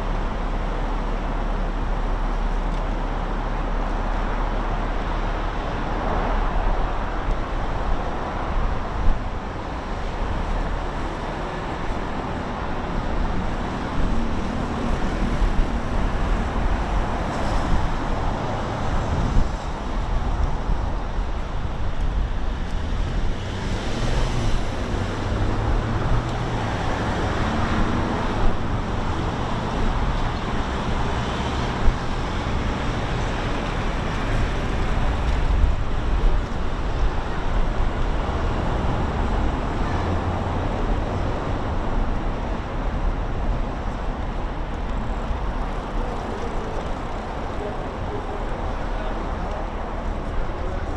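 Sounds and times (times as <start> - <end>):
road traffic rumble: 0.0 - 50.9
vehicles passing: 0.0 - 50.9.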